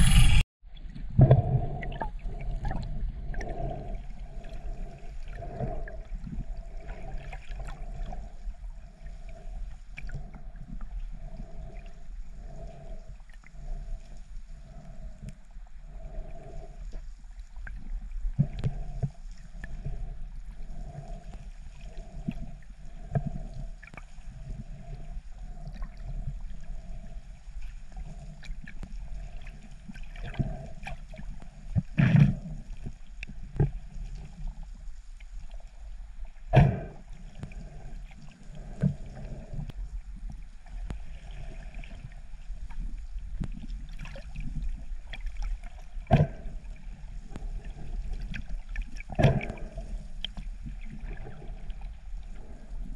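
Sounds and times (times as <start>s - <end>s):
underwater sloshing and gurgling: 0.0s - 52.9s.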